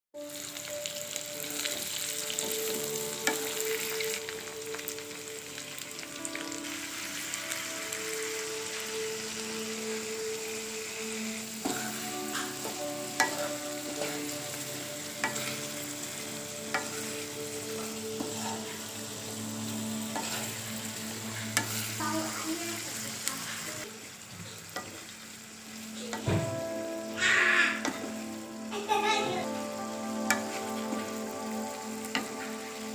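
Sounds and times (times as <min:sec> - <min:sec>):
food sizzling in a pan: 0:00.2 - 0:32.9.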